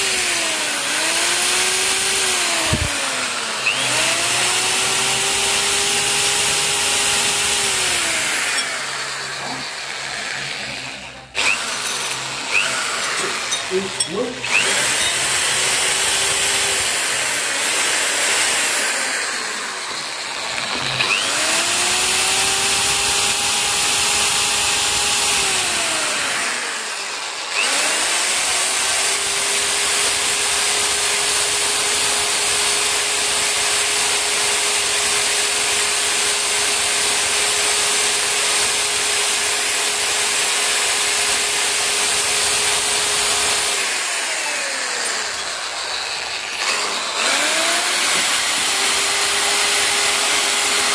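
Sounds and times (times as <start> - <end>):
electric drill with wire brush: 0.0 - 50.9.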